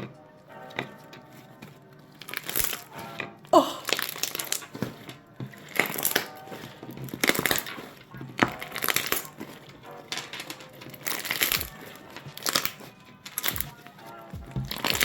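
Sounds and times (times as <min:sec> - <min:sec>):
slime crackling and crunching: 0:00.8 - 0:03.0, 0:03.6 - 0:15.0.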